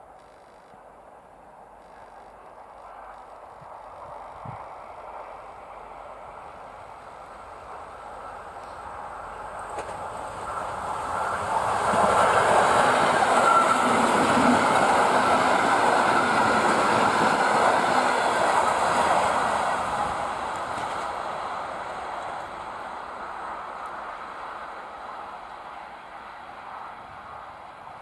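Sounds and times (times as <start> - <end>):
train wheels on rails: 1.6 - 28.0.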